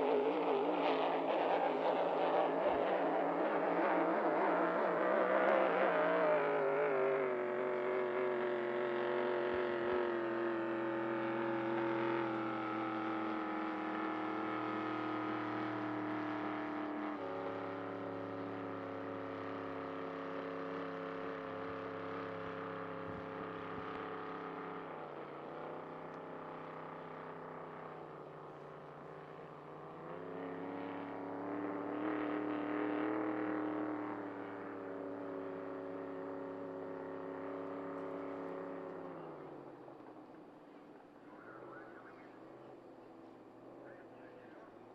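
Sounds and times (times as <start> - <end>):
boat engine running hard: 0.0 - 44.9.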